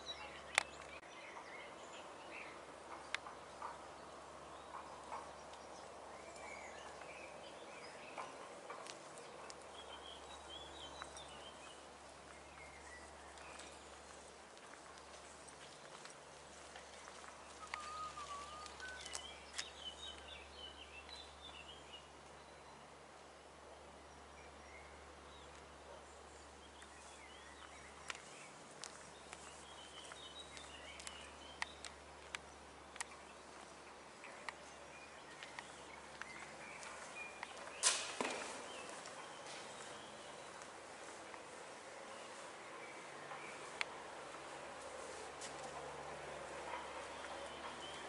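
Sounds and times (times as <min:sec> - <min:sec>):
small birds chirping: 0:00.0 - 0:23.0, 0:23.9 - 0:48.0
footsteps on a path: 0:00.2 - 0:21.7, 0:26.4 - 0:48.0.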